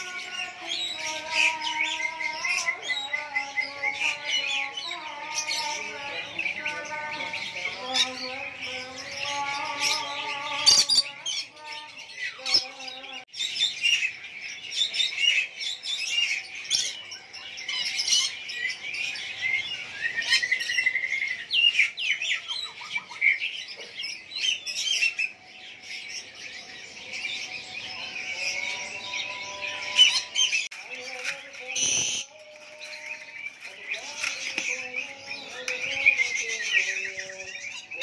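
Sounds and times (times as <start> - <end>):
songbirds chirping and singing: 0.0 - 38.0.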